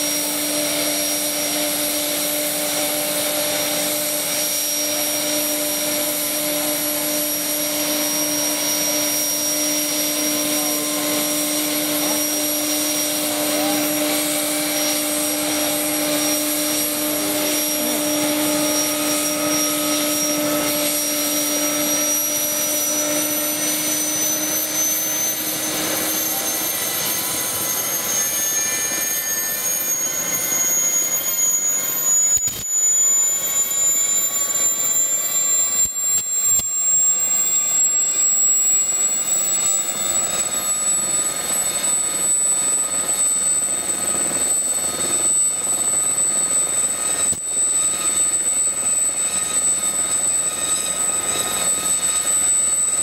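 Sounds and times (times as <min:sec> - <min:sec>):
high turbine whine rising: 0:00.0 - 0:53.0.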